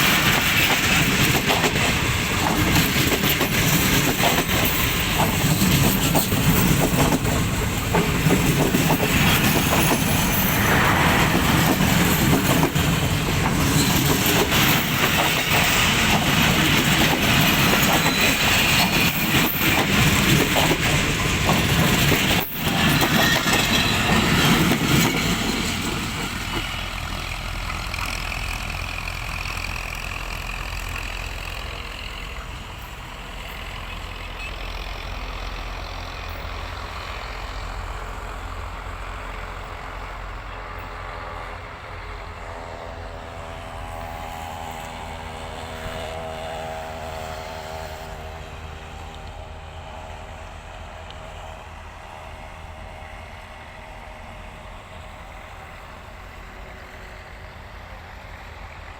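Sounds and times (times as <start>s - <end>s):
passenger train rumbling: 0.0s - 58.9s.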